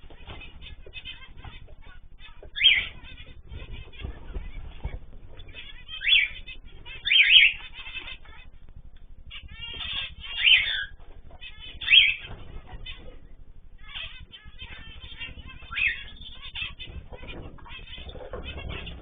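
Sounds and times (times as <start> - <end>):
bird rising calls: 0.0 - 19.0
birds chirping: 0.0 - 19.0.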